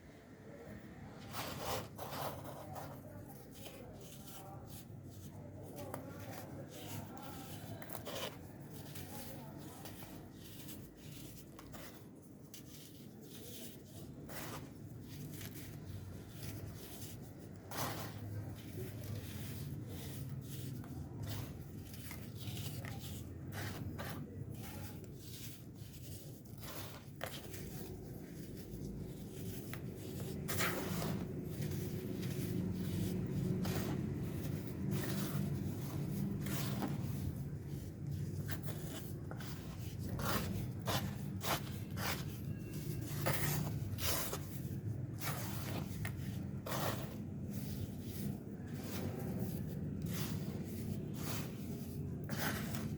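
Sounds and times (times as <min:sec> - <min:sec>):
baking soda crunching: 0:01.2 - 0:52.9.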